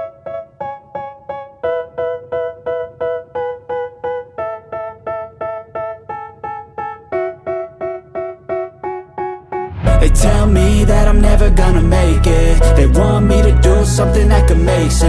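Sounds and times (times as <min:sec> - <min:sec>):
piano-like keyboard chords: 0:00.0 - 0:15.0.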